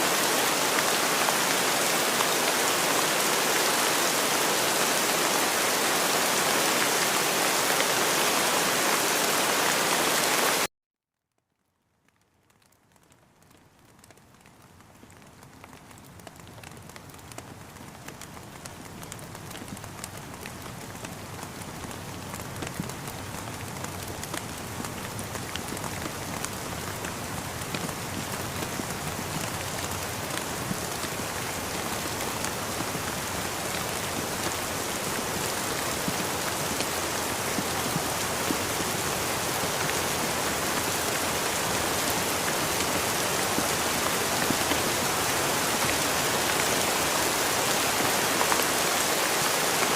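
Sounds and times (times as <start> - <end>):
rain pattering: 0.0 - 10.7, 11.4 - 49.9.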